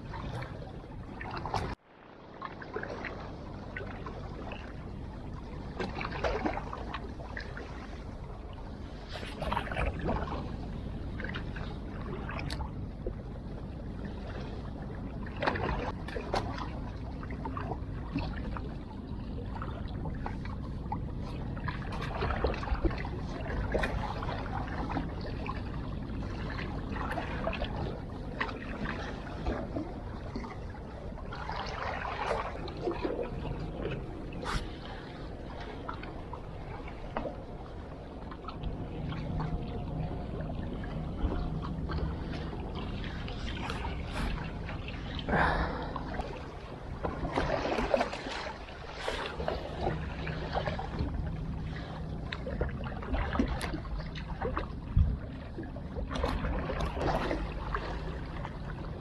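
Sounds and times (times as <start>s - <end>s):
sea water washing at shore: 0.0s - 59.0s.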